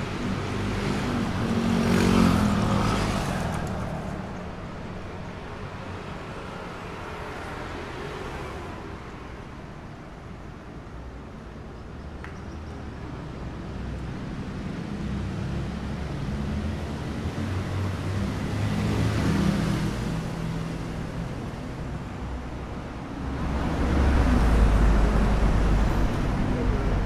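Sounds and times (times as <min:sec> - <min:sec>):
passing motor vehicles: 0:00.0 - 0:27.0.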